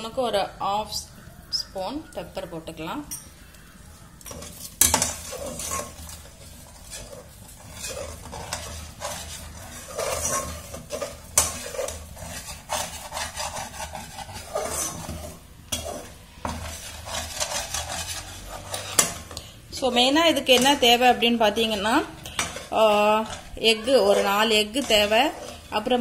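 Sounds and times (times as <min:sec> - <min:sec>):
eggs sizzling in oil: 0:00.0 - 0:26.0
skimmer scraping eggs in pan: 0:04.3 - 0:26.0.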